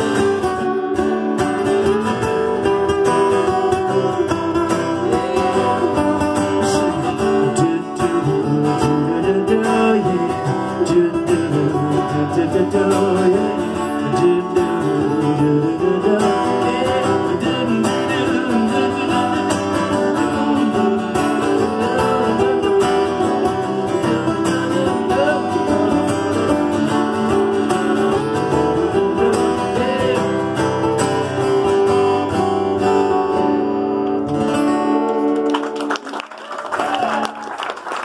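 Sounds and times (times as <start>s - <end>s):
acoustic guitars strumming: 0.0s - 36.0s.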